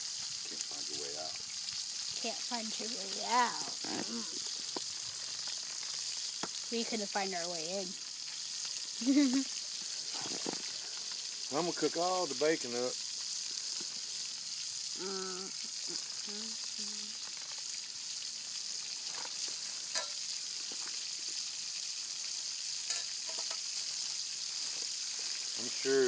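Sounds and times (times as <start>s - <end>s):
bacon sizzling in a frying pan: 0.0s - 26.0s.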